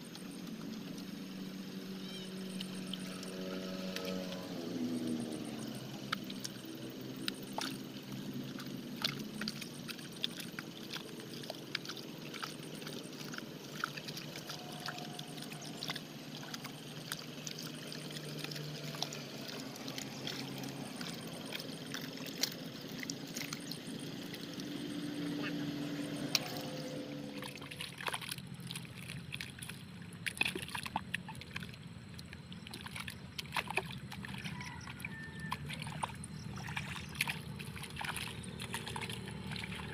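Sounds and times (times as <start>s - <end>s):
mud and water sloshing: 0.0s - 39.9s
small wet splats: 0.0s - 39.9s.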